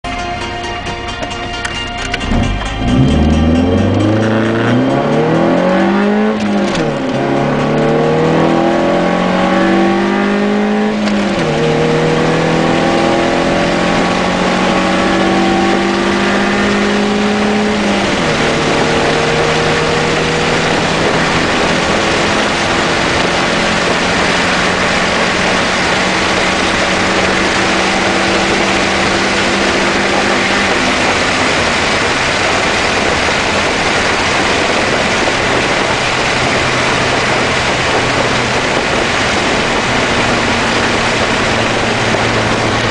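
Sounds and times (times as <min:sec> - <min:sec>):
car engine accelerating: 0:00.0 - 0:42.9
wind and road noise: 0:00.0 - 0:42.9.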